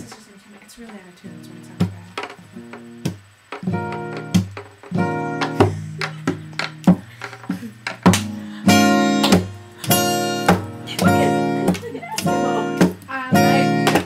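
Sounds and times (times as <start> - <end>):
acoustic guitar strummed: 0.8 - 14.0.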